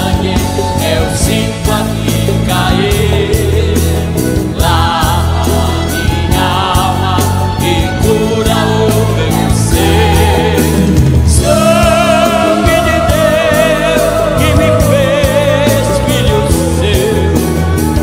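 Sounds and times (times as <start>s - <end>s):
band with steady drum beat: 0.0s - 18.0s
vocal group singing: 0.0s - 18.0s.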